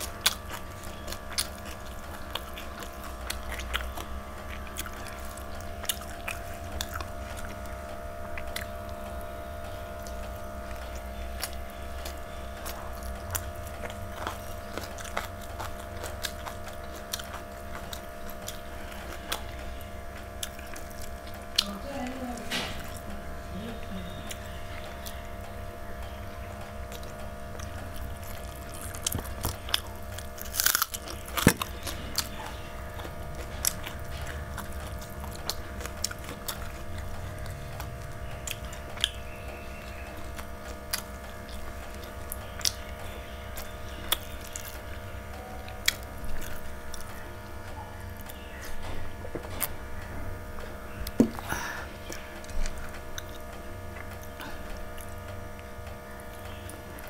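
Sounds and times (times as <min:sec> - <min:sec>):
chewing with wet mouth clicks: 0:00.0 - 0:21.9, 0:23.8 - 0:57.0
machine hum: 0:00.0 - 0:57.0.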